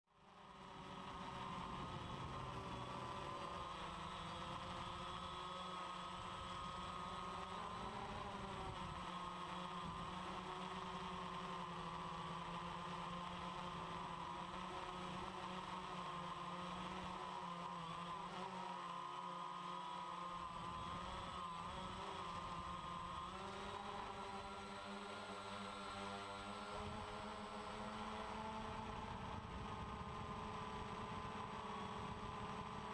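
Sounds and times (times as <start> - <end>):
drone propellers whining: 0.4 - 32.9.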